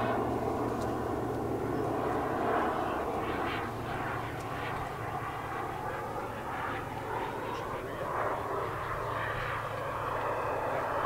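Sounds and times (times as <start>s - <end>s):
distant jet turbine rush: 0.0s - 11.0s.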